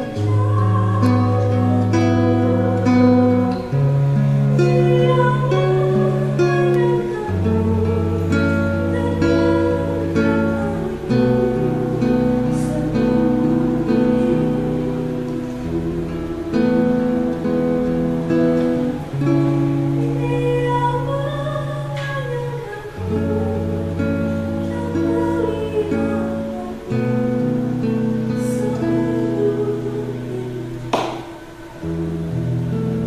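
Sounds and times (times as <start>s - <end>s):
woman singing gently: 0.0s - 17.5s, 19.8s - 32.6s
acoustic guitar strumming chords: 0.0s - 33.0s.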